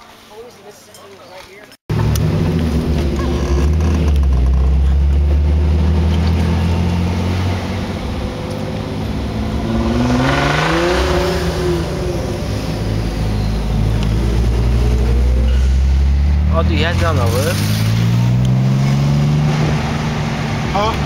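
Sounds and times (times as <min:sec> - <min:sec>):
car engine revving: 0:01.9 - 0:21.0.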